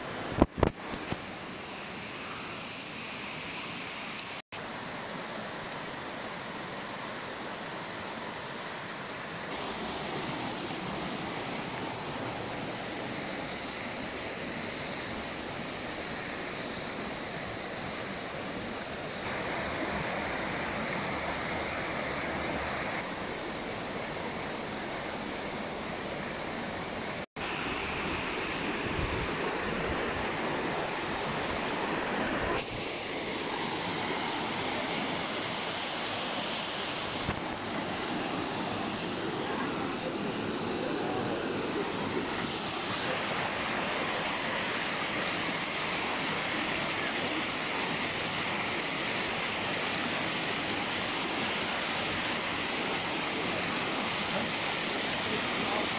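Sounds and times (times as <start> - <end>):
water rushing over waterfall: 4.2 - 55.9.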